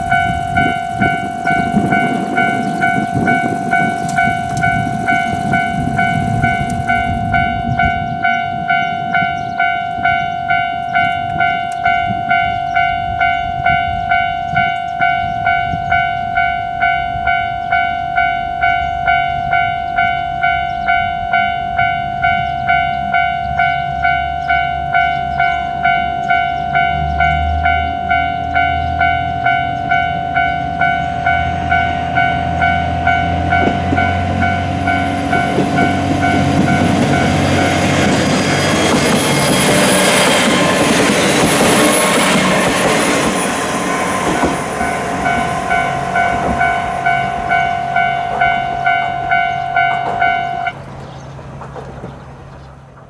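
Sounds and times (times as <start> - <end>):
level crossing alarm dinging: 0.0 - 51.2
train running past: 0.0 - 53.0.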